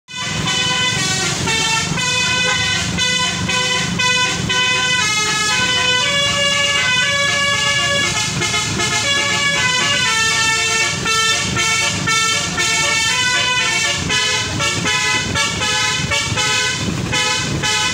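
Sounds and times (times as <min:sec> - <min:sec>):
multi-tone air horn melody: 0:00.1 - 0:17.9.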